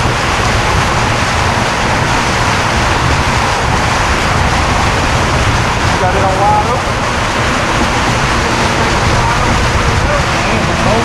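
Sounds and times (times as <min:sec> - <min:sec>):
low rumble: 0:00.0 - 0:11.0
wind and water rushing: 0:00.0 - 0:11.0.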